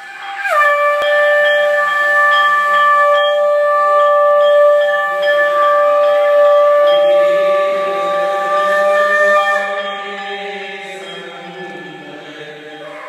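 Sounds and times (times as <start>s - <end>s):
conch shells blown: 0.0s - 13.0s.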